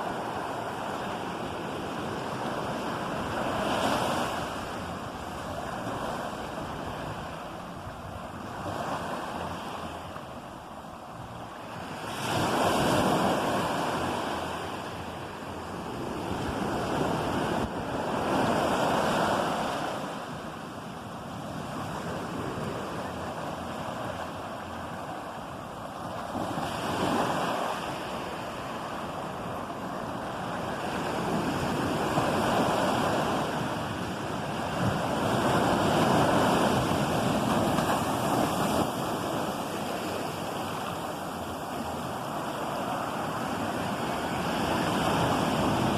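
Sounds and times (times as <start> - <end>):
ocean waves breaking: 0.0 - 45.9.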